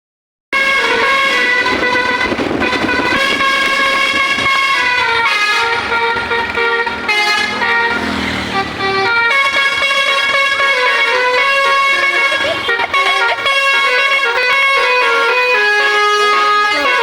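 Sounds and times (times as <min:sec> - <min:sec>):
musical air horn playing tune: 0:00.6 - 0:17.0.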